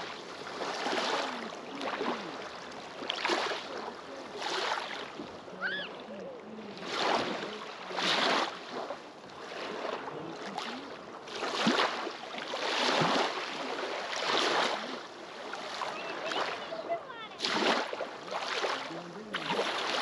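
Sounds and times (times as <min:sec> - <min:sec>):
waves washing over pebbles: 0:00.0 - 0:20.0.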